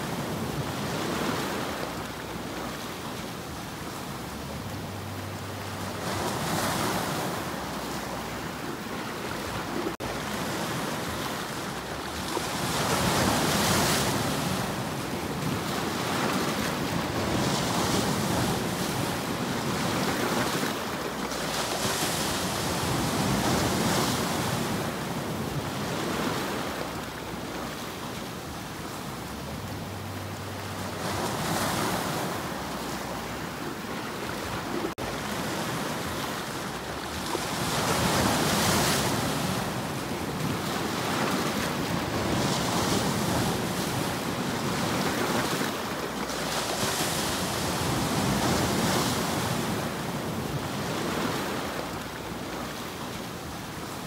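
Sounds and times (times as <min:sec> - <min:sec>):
sea waves breaking on rocks: 0:00.0 - 0:04.9, 0:05.6 - 0:54.0.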